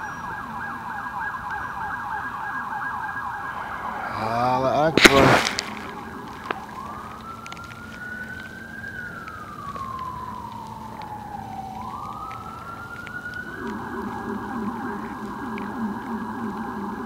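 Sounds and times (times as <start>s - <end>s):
emergency siren wailing: 0.0s - 17.0s.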